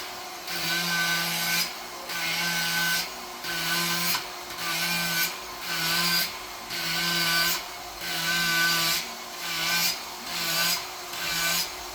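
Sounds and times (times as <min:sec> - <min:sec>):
carving tool on wood: 0:00.5 - 0:11.8.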